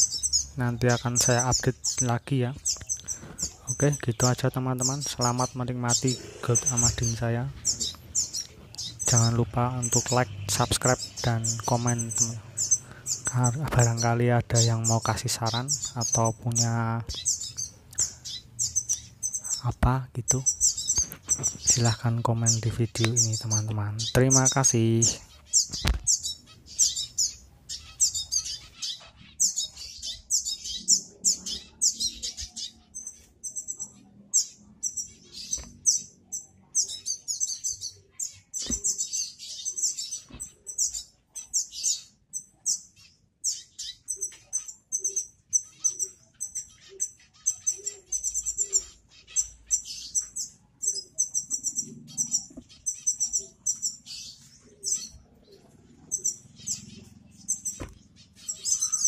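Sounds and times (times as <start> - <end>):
finches chirping: 0.0 - 59.0.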